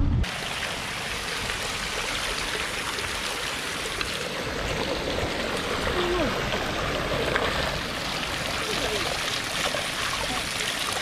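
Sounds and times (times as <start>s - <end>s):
running water flowing: 0.2s - 11.0s.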